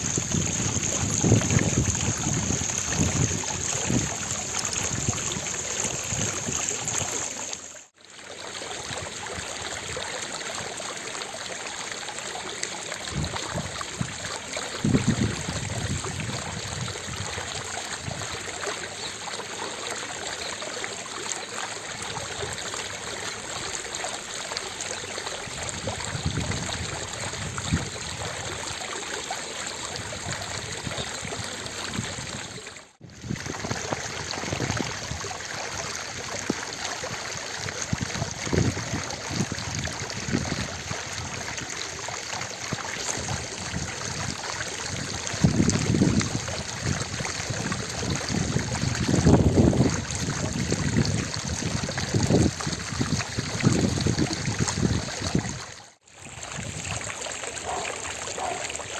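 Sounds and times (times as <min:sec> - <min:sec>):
fountain water splashing: 0:00.0 - 0:58.9.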